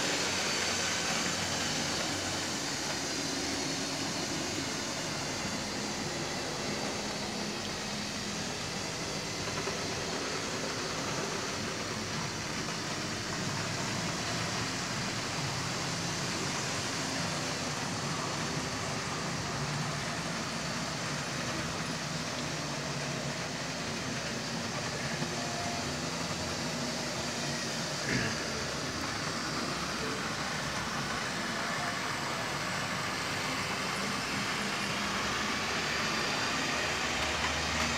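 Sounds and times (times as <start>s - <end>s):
model train motors whirring: 0.0s - 37.9s
wagons rolling on track: 0.0s - 37.9s.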